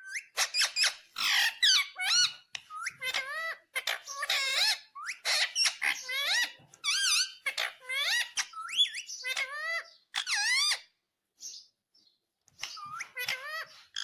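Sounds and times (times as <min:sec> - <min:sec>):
parakeet chattering: 0:00.1 - 0:11.6, 0:12.5 - 0:14.0.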